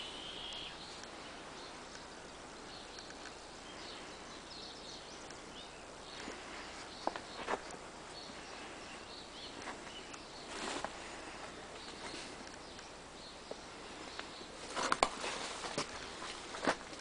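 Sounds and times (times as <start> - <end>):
faint bird chirps: 0.0 - 14.6.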